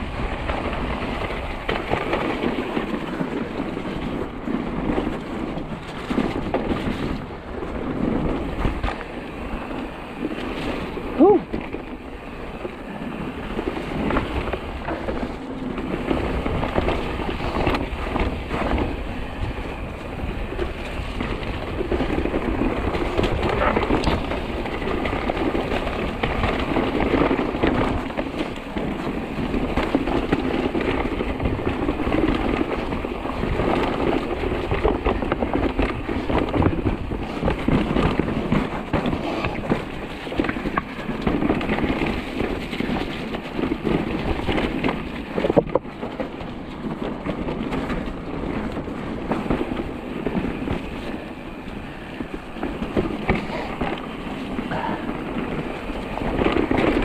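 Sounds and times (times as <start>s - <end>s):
bike rattling and knocking: 0.0s - 57.0s
tyres rolling over dirt and stones: 0.0s - 57.0s.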